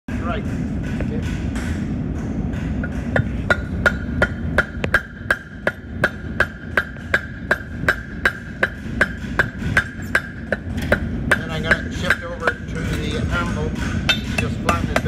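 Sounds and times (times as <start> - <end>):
hammer ringing on anvil: 0.8 - 15.0.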